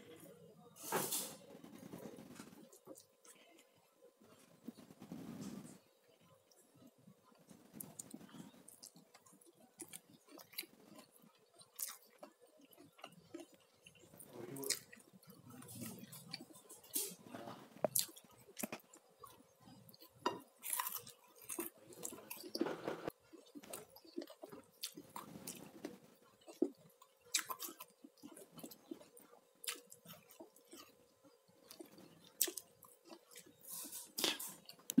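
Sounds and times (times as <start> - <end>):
person chewing with crunches: 6.5 - 35.0.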